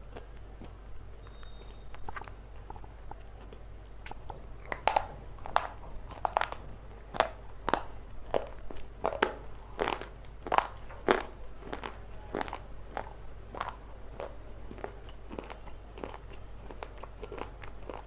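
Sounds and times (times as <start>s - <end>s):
person crunching hard food: 0.0s - 18.0s.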